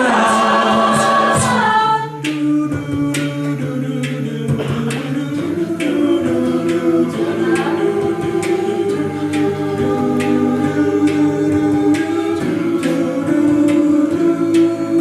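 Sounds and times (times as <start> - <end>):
a cappella group singing chords: 0.0 - 15.0
vocal percussion beat: 0.0 - 15.0.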